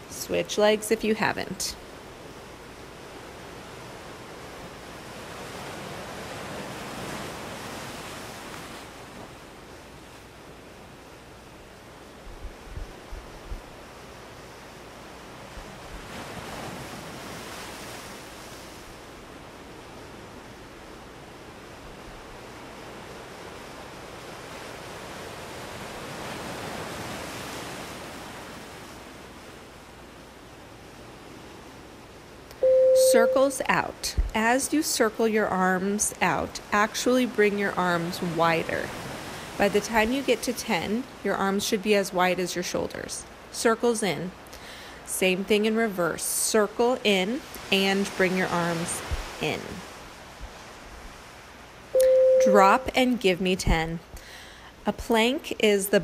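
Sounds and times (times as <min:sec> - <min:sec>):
ocean surf on sandy beach: 0:00.0 - 0:55.3.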